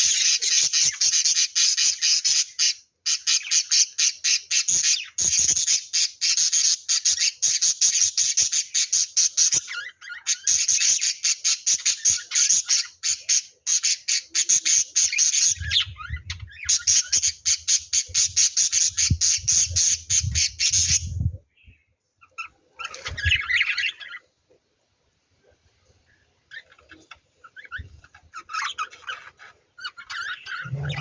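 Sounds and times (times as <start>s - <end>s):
lovebirds chattering: 0.0s - 24.4s, 25.4s - 31.0s.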